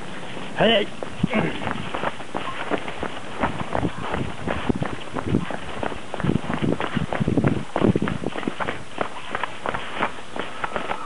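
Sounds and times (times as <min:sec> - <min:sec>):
footsteps on brick paving: 0:00.1 - 0:11.0.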